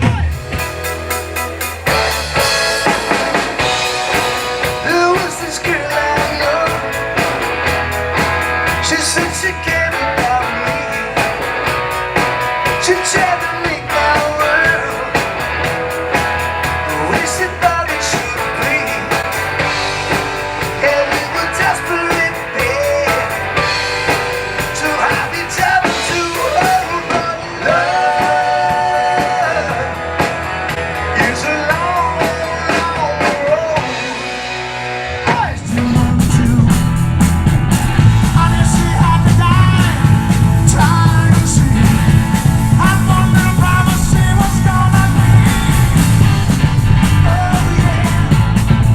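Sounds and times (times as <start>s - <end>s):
rock song with vocals and guitar: 0.0s - 48.9s.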